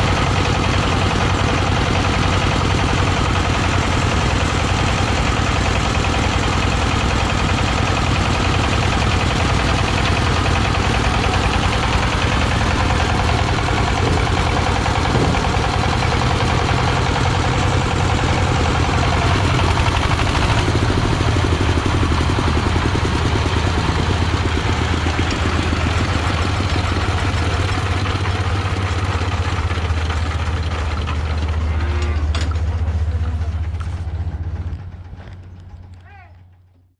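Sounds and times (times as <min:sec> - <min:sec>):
threshing machine engine running: 0:00.0 - 0:36.8.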